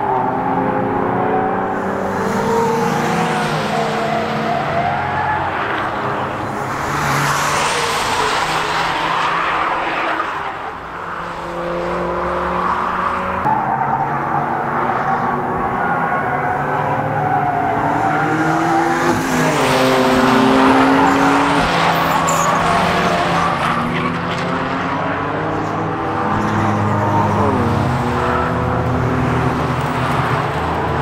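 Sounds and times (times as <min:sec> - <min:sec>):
race car engine: 0:00.0 - 0:31.0.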